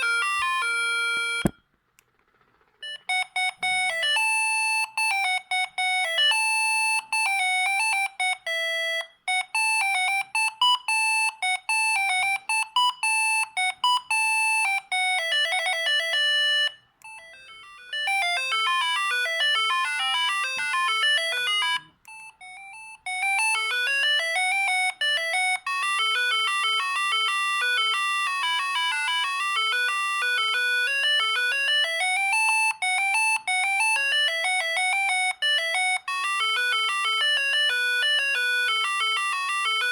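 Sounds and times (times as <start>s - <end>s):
mobile phone ringtone beeps: 0.0s - 1.6s, 2.8s - 39.9s.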